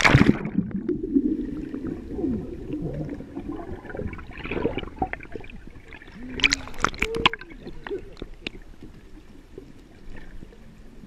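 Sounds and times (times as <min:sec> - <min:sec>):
bubbling gurgles: 0:00.0 - 0:11.0
muffled underwater wash: 0:00.0 - 0:11.0.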